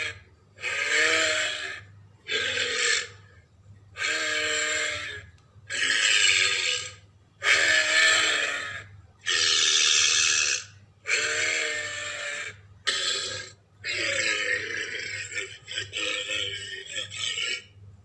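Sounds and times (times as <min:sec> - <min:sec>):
guttural creature calls: 0:00.0 - 0:03.2, 0:04.0 - 0:17.8.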